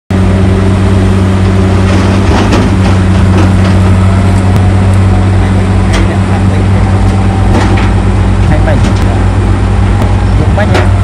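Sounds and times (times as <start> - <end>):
heavy diesel engines running: 0.1 - 11.0.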